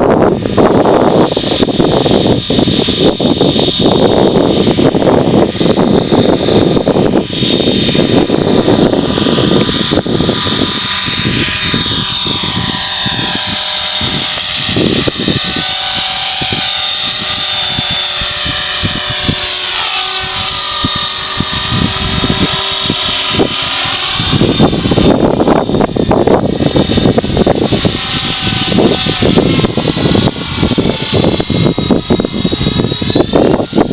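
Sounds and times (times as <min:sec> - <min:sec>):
rc helicopter rotor whine: 0:00.0 - 0:33.9
wind buffeting microphone: 0:00.0 - 0:33.9.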